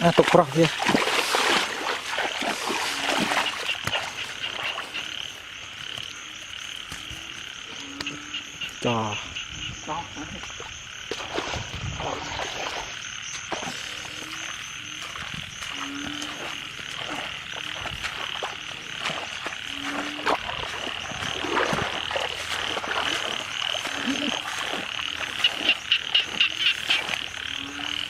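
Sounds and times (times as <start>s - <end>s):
frogs trilling: 0.0s - 28.0s
low frog croak: 0.0s - 28.0s.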